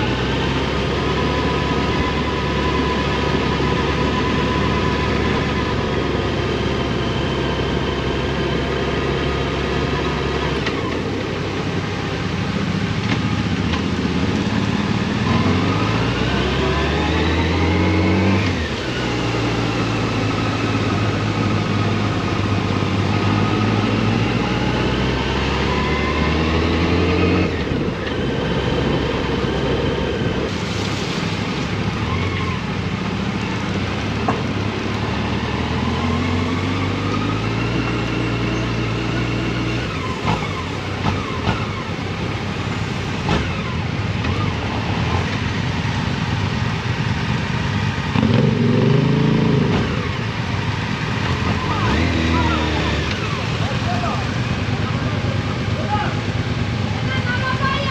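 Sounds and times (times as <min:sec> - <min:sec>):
motorcycle engine accelerating: 0:00.0 - 0:30.5, 0:34.4 - 0:57.6
road rush: 0:00.0 - 0:57.9
wind: 0:00.0 - 0:57.9.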